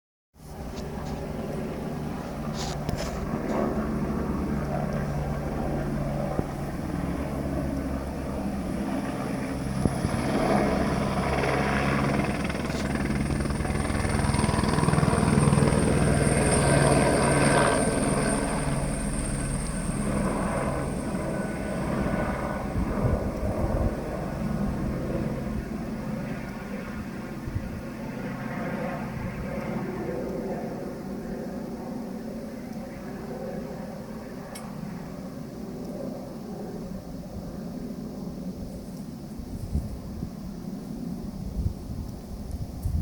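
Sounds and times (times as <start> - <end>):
helicopter rotor beat: 0.4 - 43.0.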